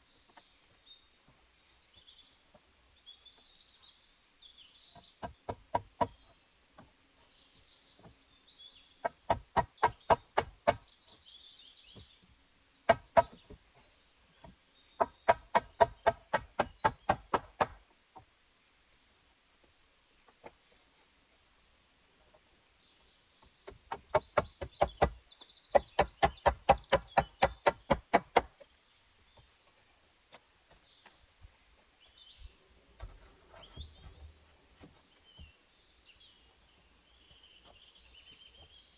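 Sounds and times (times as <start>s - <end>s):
birds chirping faintly: 0.0s - 38.9s.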